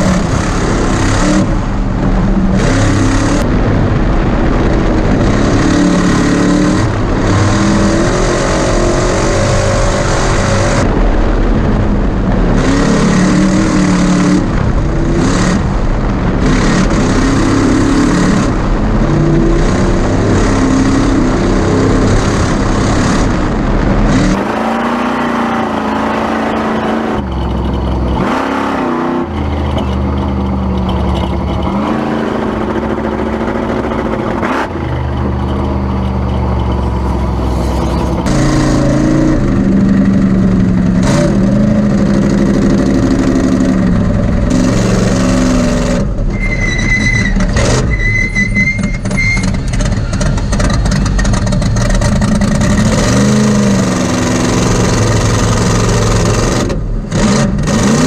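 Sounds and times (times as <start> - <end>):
road noise: 0.0 - 58.0
truck engine revving: 0.0 - 58.0.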